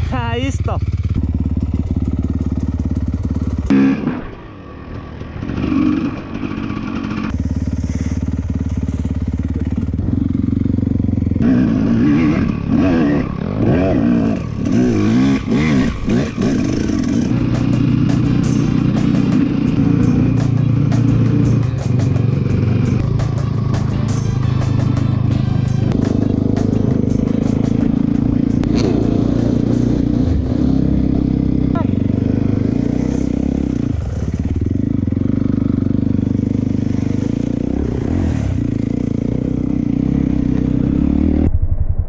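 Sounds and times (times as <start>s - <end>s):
dirt bike engine revving: 0.0s - 4.5s, 5.1s - 41.5s.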